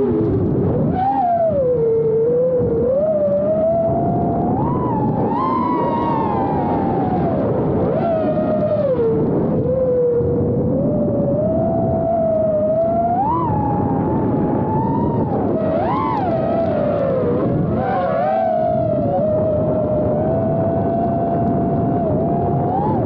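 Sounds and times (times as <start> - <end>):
drone motors whining: 0.0 - 23.0
steady rushing noise: 0.0 - 23.0.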